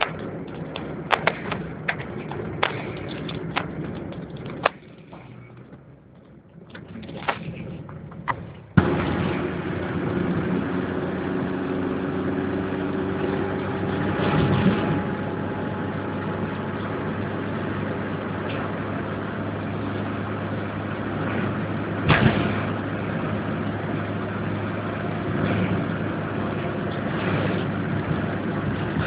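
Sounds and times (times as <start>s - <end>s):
car engine hum: 0.0s - 29.0s
tyre noise on wet road: 0.0s - 29.0s.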